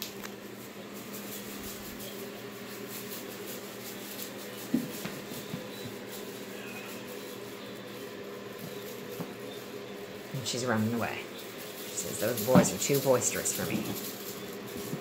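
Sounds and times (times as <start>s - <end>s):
faint rustling: 0.0s - 15.0s
room hum: 0.0s - 15.0s.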